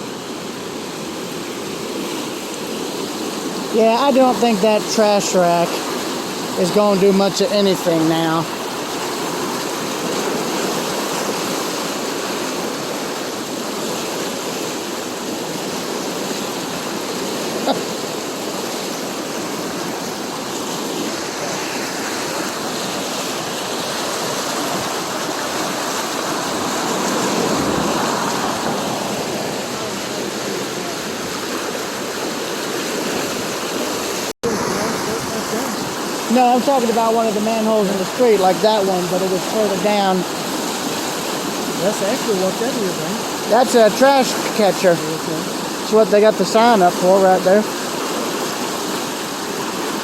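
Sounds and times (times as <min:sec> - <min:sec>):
floodwater rushing under a bridge: 0:00.0 - 0:50.0.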